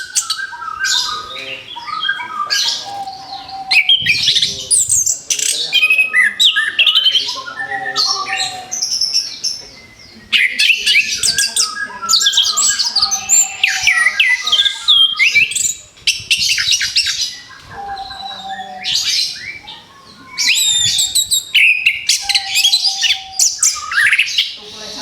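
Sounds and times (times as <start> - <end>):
thrush singing whistles and chirps: 0.0 - 25.0.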